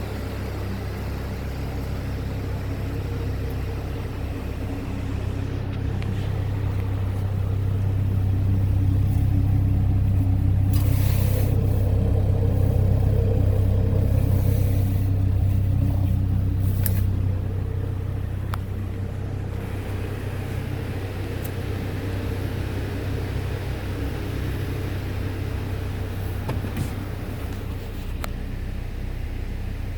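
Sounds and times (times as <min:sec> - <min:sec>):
car engine running: 0:00.0 - 0:29.9.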